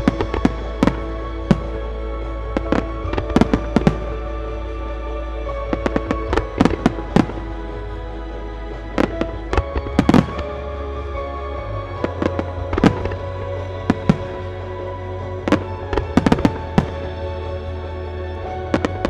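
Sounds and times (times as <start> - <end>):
music: 0.0 - 19.0.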